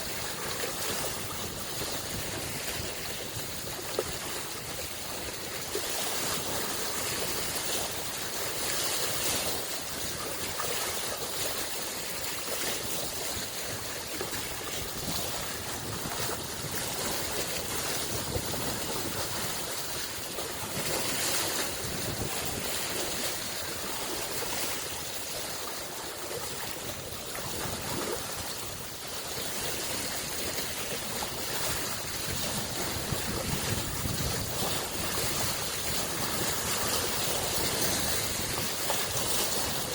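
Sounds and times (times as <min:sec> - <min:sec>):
lake waves washing on shore: 0:00.0 - 0:39.9.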